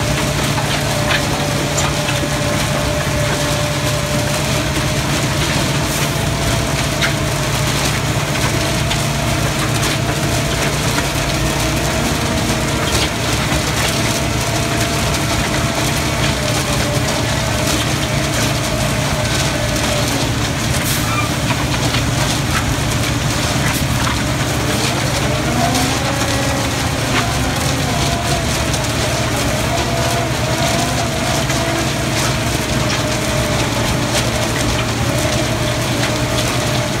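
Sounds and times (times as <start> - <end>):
paver engine drone: 0.0 - 37.0.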